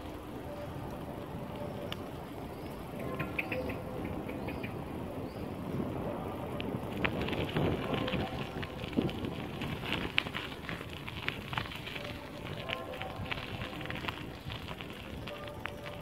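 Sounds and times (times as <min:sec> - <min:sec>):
bicycle tyres rolling on gravel: 0:00.0 - 0:16.0.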